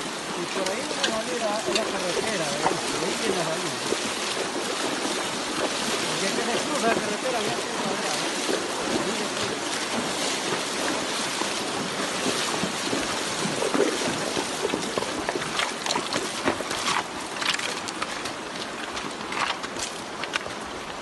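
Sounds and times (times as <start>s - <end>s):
hooves splashing in water: 0.0s - 21.0s
river rushing over rocks: 0.0s - 21.0s.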